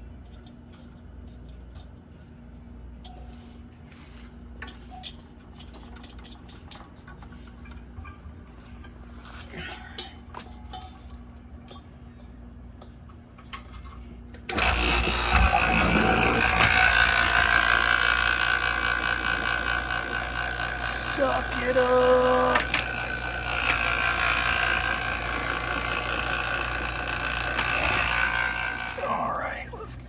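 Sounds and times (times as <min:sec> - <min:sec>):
faint steady hum: 0:05.6 - 0:30.0.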